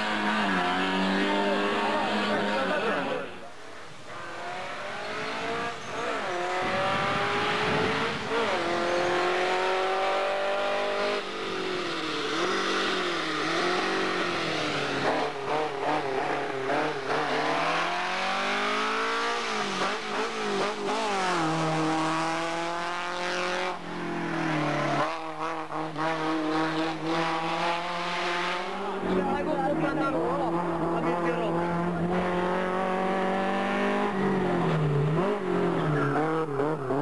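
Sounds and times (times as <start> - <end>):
racing car engine revving: 0.0 - 3.4, 4.1 - 37.0.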